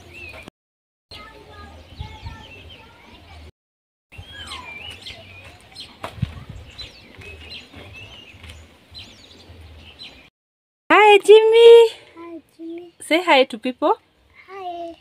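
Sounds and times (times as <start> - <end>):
small birds chirping: 0.0 - 0.5, 1.1 - 3.5, 4.1 - 10.3, 10.9 - 15.0.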